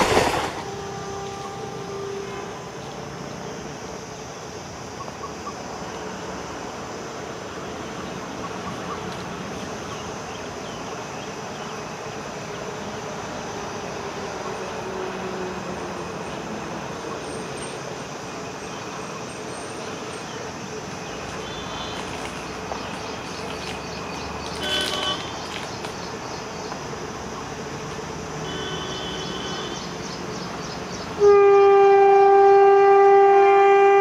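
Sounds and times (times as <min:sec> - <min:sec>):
locomotive hum and rumble: 0:00.0 - 0:34.0.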